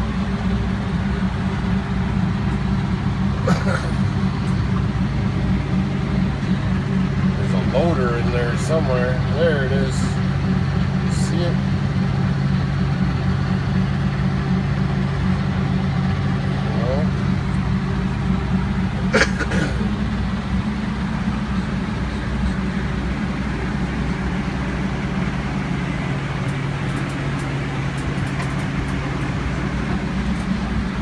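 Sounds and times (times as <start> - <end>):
engine drone: 0.0 - 31.0.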